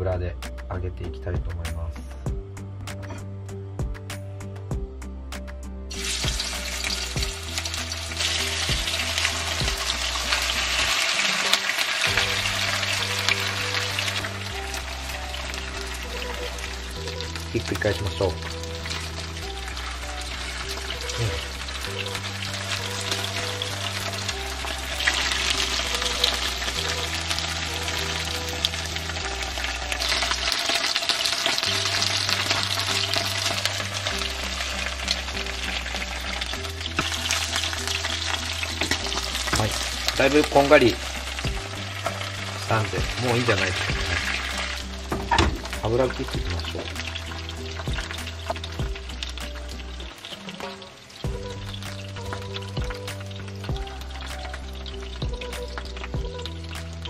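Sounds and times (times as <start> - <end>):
background music with beat: 0.0 - 57.0
chicken sizzling in frying pan: 5.9 - 57.0.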